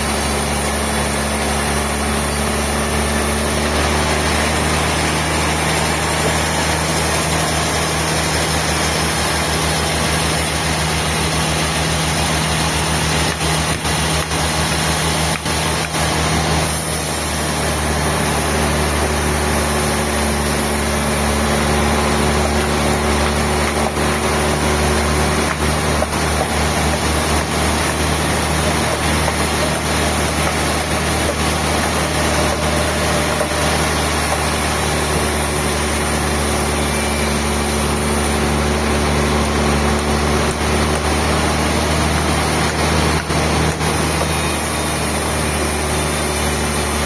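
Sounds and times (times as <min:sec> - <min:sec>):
sawmill machinery humming: 0:00.0 - 0:47.0.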